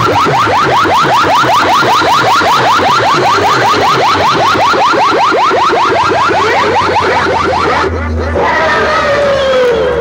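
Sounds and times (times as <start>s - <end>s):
electronic siren warble: 0.0s - 10.0s.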